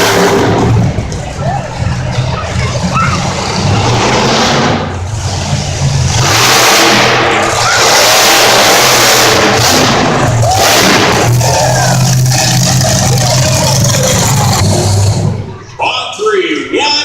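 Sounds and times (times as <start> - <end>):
monster truck engine revving: 0.0 - 15.8.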